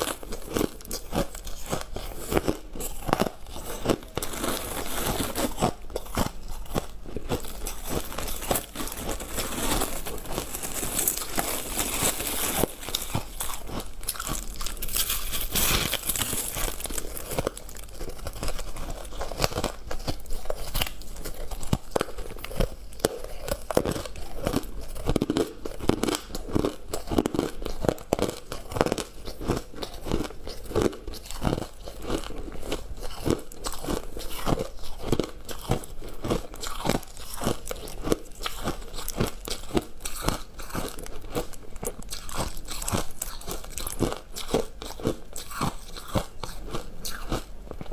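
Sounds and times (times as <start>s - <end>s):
crunching and chewing ice: 0.0s - 47.9s.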